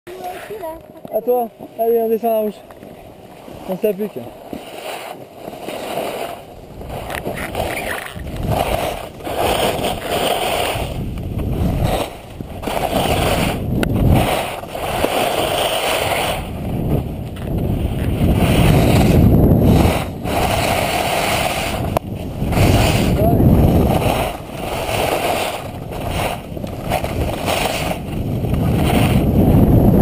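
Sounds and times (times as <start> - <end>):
skis scraping on snow: 0.1 - 30.0
wind rushing over microphone: 5.3 - 30.0.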